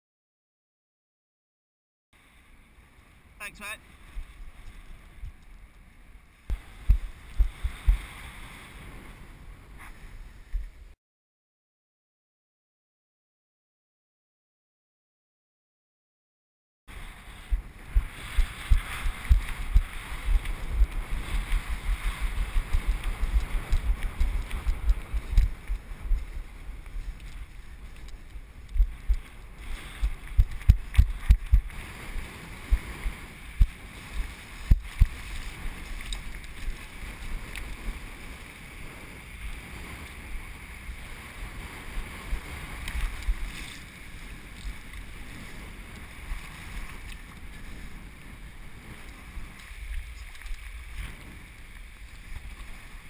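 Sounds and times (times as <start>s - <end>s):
wind buffeting microphone: 3.9s - 11.0s, 16.9s - 53.0s.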